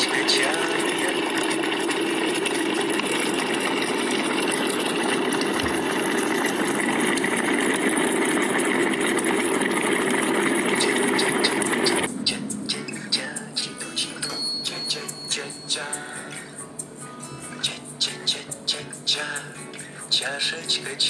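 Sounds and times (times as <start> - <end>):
electric kettle heating water: 0.0 - 21.0.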